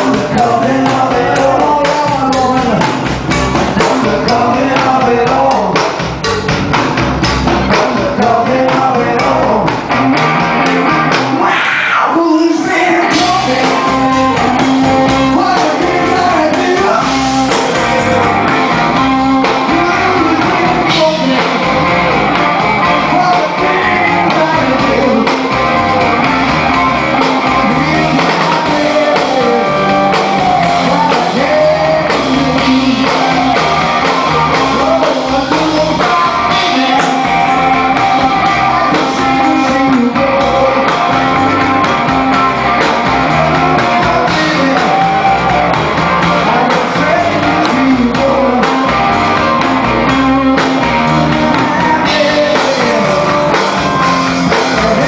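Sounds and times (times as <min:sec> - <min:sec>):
man singing: 0:00.0 - 0:06.1, 0:07.4 - 0:10.2, 0:11.1 - 0:55.0
blues-rock band playing live: 0:00.0 - 0:55.0.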